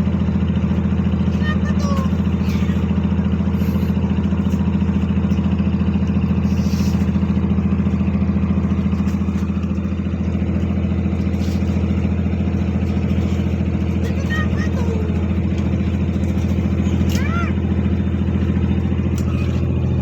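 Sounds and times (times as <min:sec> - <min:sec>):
ship diesel engine throbbing: 0:00.0 - 0:20.0.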